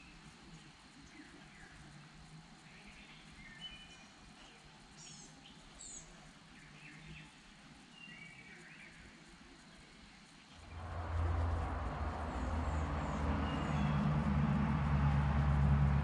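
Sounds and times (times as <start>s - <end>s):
faint bird chirps: 0.0s - 14.6s.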